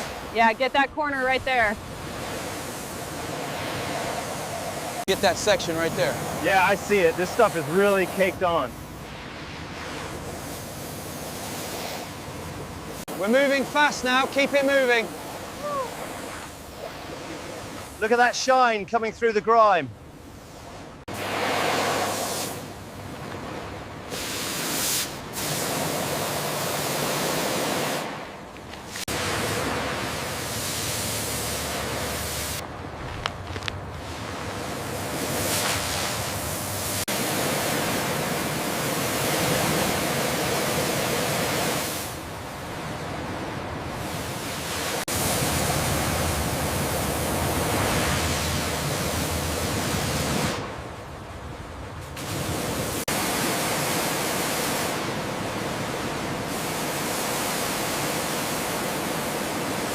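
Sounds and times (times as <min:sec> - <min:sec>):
water spraying: 0:00.0 - 0:18.6, 0:21.1 - 0:23.0, 0:24.1 - 0:32.6, 0:33.2 - 0:42.4, 0:43.9 - 0:50.8, 0:52.0 - 0:59.9.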